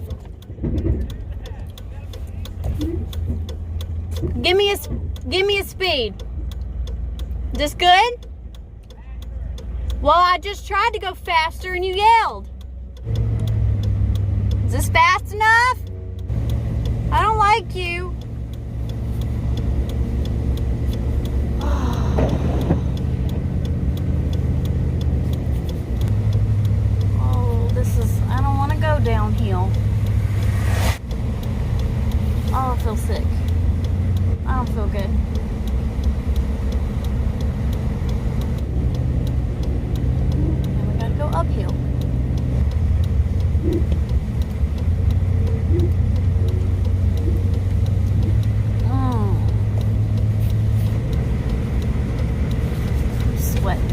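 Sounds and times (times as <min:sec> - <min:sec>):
light ticking: 0:00.0 - 0:53.9
truck engine drone: 0:00.0 - 0:53.9.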